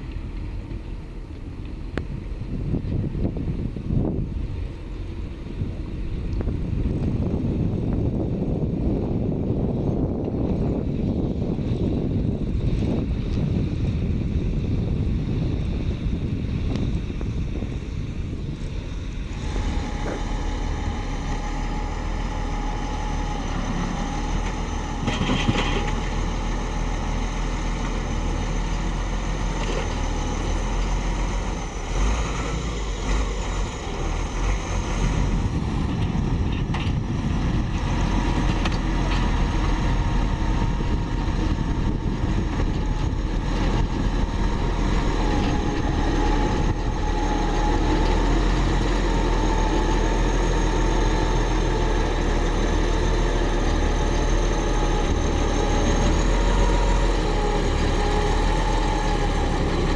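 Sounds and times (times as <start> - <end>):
diesel engines of heavy machinery: 0.0 - 59.9
steady whine: 0.0 - 59.9.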